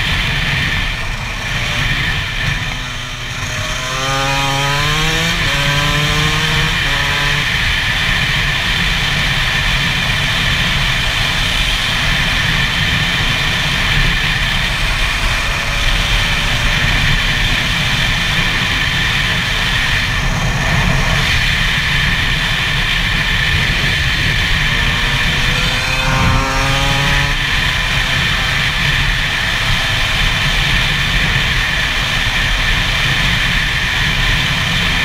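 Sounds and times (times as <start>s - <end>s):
two-stroke motorcycle engine: 0.0s - 35.0s
wind rumble on microphone: 0.0s - 35.0s.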